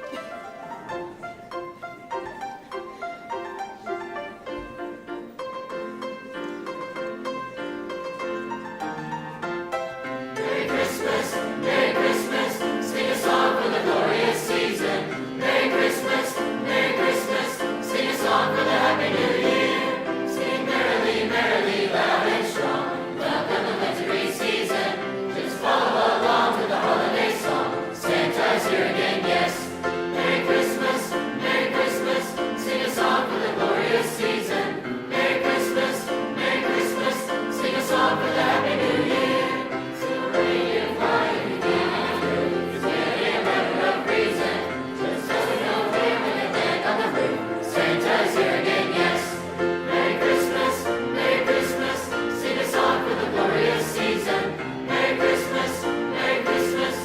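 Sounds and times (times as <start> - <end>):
choir singing with accompaniment: 8.8 - 57.0.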